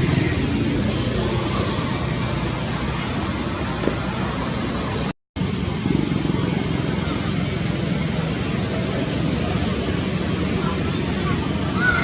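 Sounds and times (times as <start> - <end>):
steady background rumble and hiss: 2.1 - 12.0.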